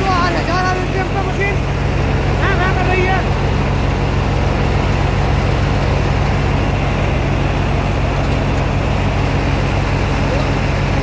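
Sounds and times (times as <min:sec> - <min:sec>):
thresher drum whirring: 0:00.0 - 0:11.0
tractor engine hum: 0:00.0 - 0:11.0.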